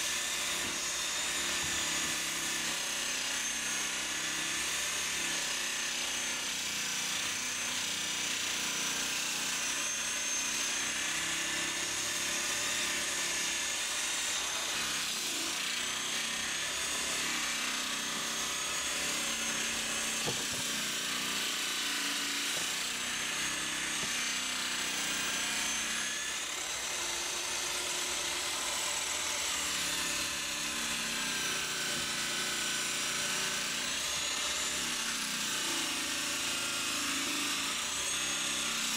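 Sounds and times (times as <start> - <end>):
electric grinders on fiberglass: 0.0 - 38.9.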